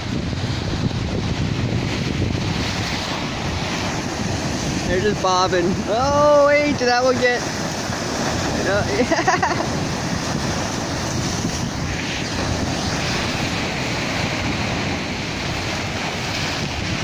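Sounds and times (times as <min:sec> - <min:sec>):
surf breaking on shore: 0:00.0 - 0:17.0
wind buffeting microphone: 0:00.0 - 0:17.0.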